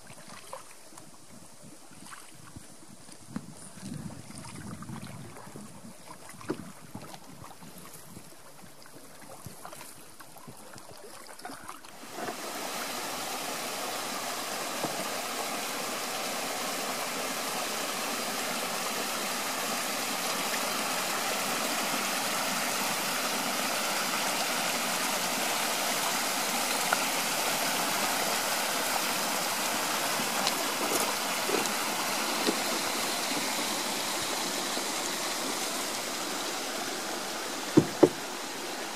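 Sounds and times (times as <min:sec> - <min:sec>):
faint wind: 0:00.0 - 0:38.9
stream running over rocks: 0:03.8 - 0:38.9.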